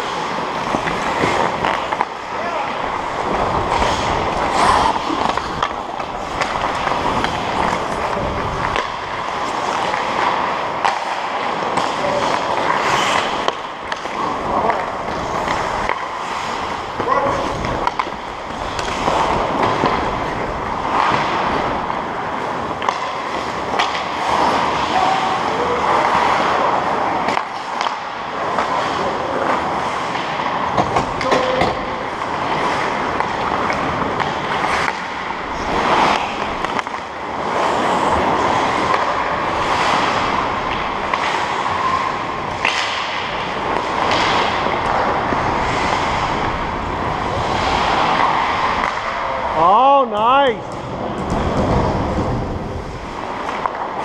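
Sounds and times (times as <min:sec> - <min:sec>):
ice skates scraping on ice: 0:00.0 - 0:49.7, 0:50.6 - 0:54.0
hockey sticks and puck clacking: 0:00.0 - 0:54.0.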